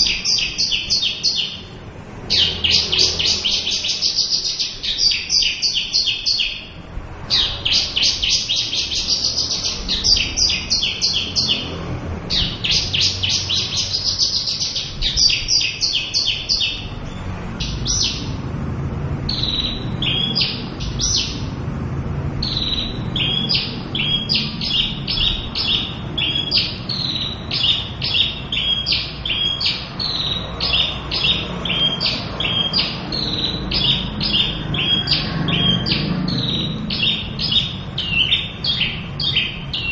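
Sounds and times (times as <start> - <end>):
lark singing: 0.0 - 18.4, 19.2 - 21.5, 22.4 - 39.9.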